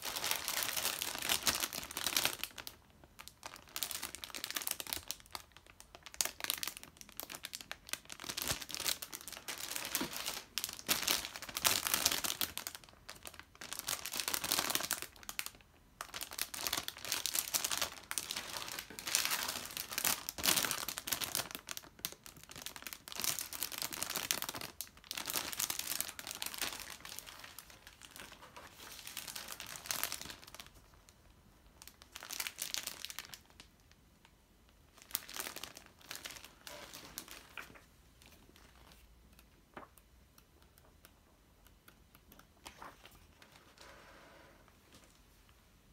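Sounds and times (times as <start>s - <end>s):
plastic bags crinkling: 0.0s - 31.0s, 31.7s - 33.9s, 34.9s - 39.1s.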